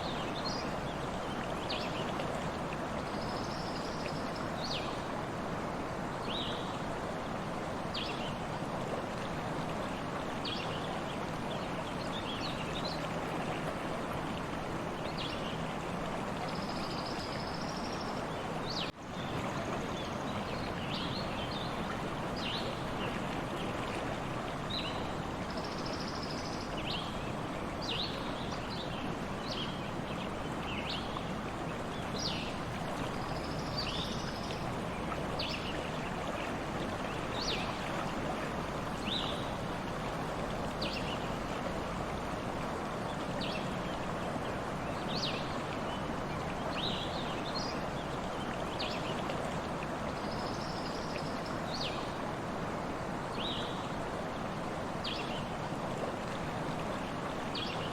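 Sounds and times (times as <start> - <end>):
stream water running: 0.0 - 57.9.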